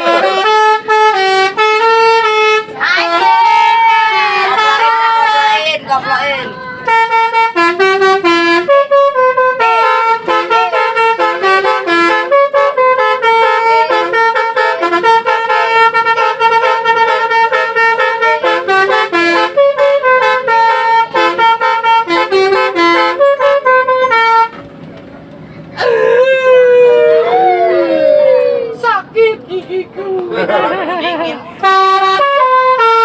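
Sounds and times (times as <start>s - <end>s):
bus air horn melody: 0.0s - 5.8s, 6.4s - 24.7s, 30.4s - 33.0s.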